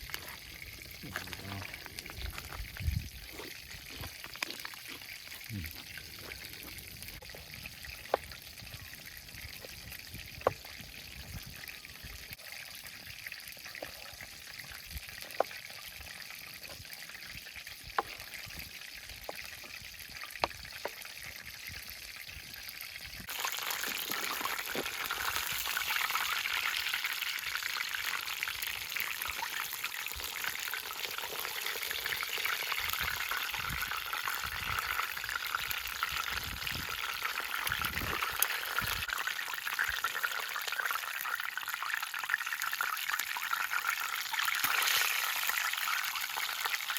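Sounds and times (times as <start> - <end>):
oil popping: 0.0 - 8.6, 12.6 - 46.9
chicken sizzling in hot oil: 0.0 - 46.9.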